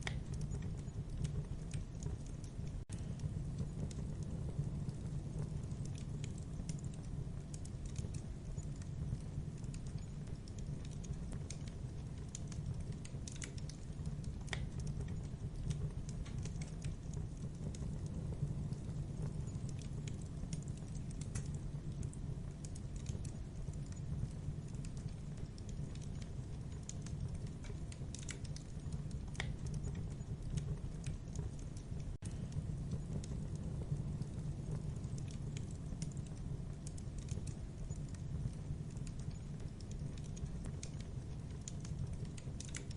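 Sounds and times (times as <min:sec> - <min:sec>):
low rumble of flames: 0:00.0 - 0:42.9
wood fire crackling: 0:00.0 - 0:42.9.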